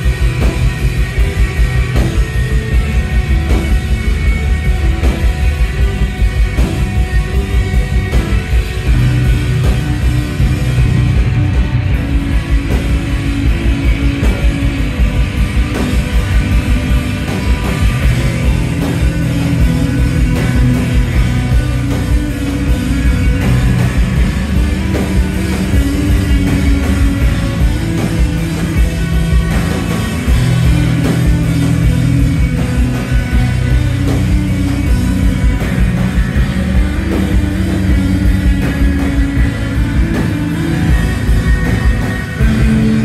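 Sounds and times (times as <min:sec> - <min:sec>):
live post-rock band playing: 0:00.0 - 0:43.0.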